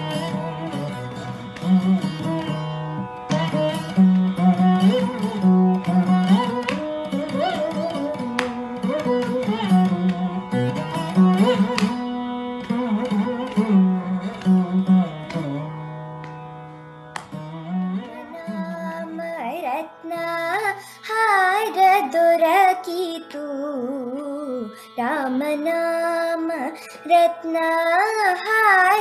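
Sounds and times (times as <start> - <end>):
plucked string melody with slides: 0.0 - 29.0.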